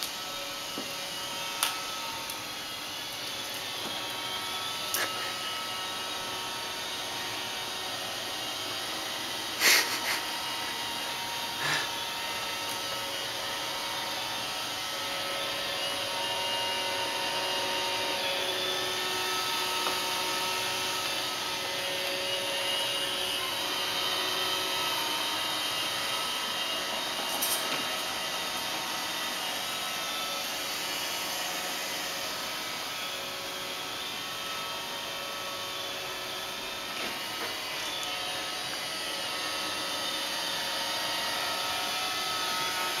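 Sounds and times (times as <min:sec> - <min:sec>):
robot vacuum motor whine: 0:00.0 - 0:43.0.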